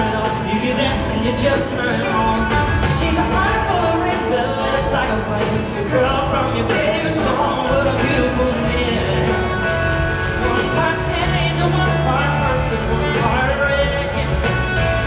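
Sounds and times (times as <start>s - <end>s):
male lead vocals: 0.0s - 15.0s
steady drumbeat: 0.0s - 15.0s
strummed acoustic guitar: 0.0s - 15.0s.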